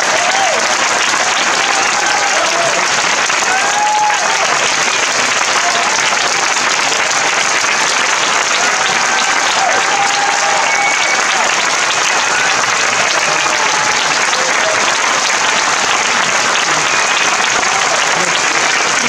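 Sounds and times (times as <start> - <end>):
audience applauding: 0.0 - 19.0
cheers and whoops: 0.0 - 19.0.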